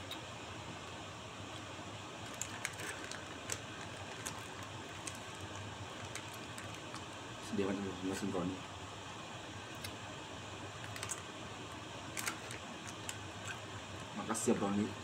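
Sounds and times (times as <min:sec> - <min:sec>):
room tone hiss: 0:00.0 - 0:15.0.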